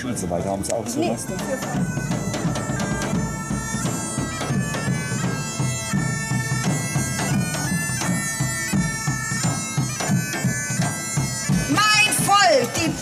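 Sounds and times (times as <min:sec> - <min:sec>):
bagpipes playing melody: 0:00.0 - 0:13.0
low drum beat: 0:00.8 - 0:13.0.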